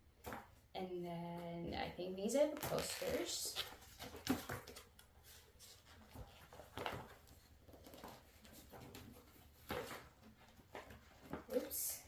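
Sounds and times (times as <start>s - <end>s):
posters and packaging rustling: 2.3s - 12.0s.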